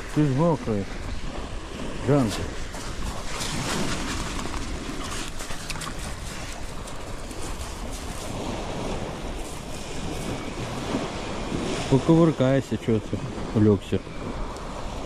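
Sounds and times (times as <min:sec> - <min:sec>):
sea surf washing on shore: 0:00.0 - 0:15.0
wind buffeting microphone: 0:00.0 - 0:15.0.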